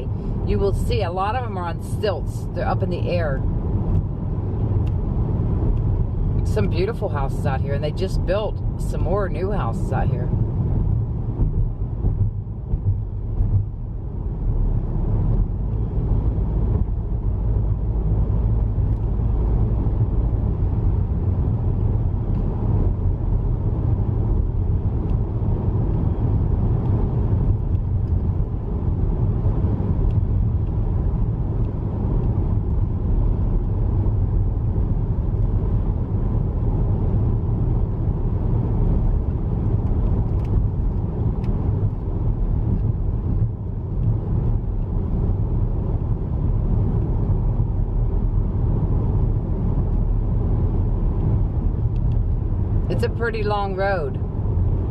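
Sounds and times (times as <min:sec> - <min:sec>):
car road rumble from cabin: 0:00.0 - 0:54.9.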